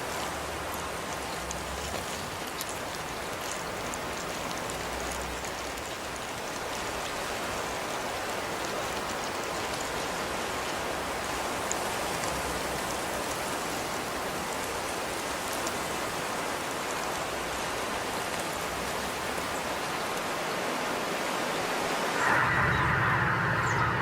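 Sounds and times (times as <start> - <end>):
steady rain hiss: 0.0 - 22.6.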